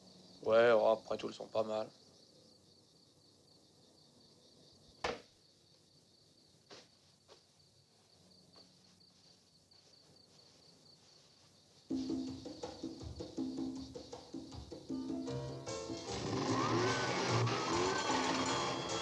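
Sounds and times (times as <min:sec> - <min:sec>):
faint insects chirring: 0:00.0 - 0:16.0.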